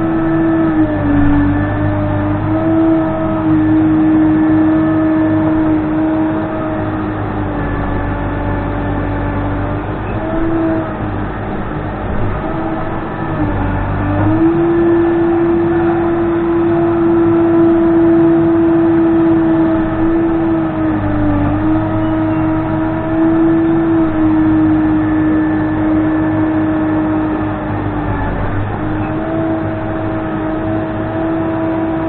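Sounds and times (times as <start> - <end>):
backhoe diesel engine whining: 0.0 - 32.0.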